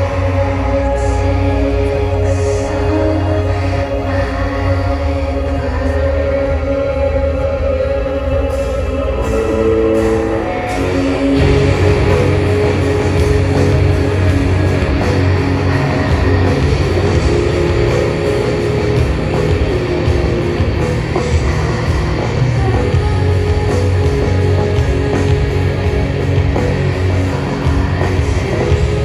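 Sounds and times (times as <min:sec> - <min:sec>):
heavy rock music: 0:00.0 - 0:29.0.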